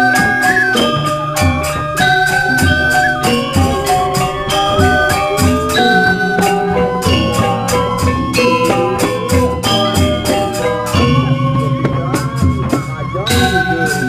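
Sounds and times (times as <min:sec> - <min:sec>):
jingling percussion: 0:00.0 - 0:14.0
music with steady beat: 0:00.0 - 0:14.0.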